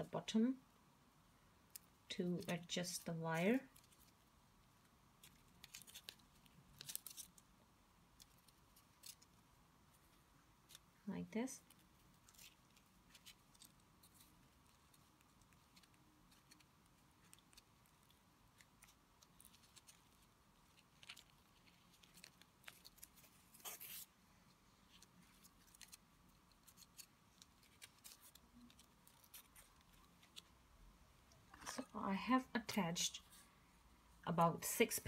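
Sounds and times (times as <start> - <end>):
hands rustling tape and wire: 1.6 - 33.5.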